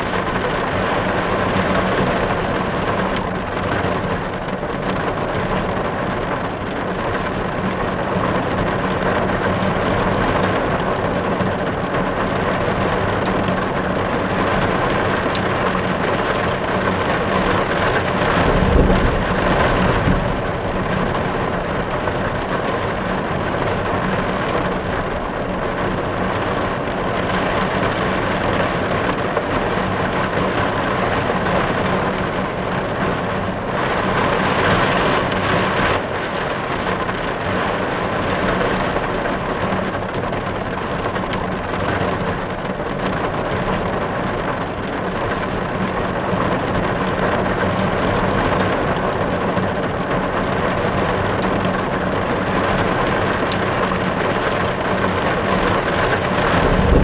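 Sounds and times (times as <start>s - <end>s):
rain on a car roof: 0.0s - 57.0s.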